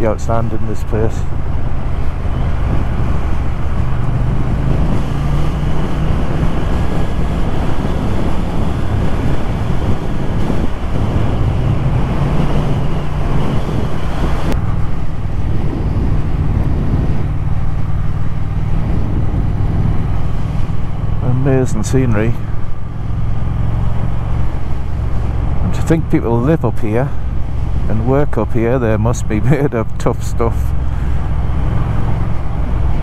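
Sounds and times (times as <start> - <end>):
motorcycle engine drone: 0.0 - 33.0
wind buffeting microphone: 0.0 - 33.0.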